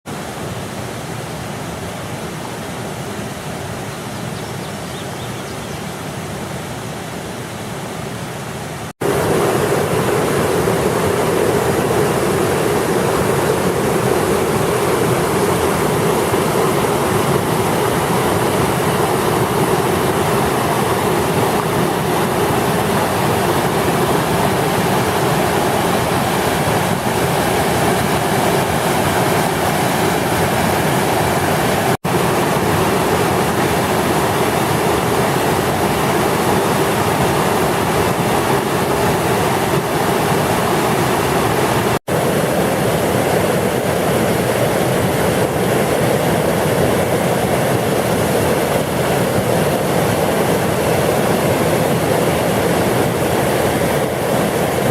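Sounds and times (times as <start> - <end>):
floodwater rushing roar: 4.8 - 54.9.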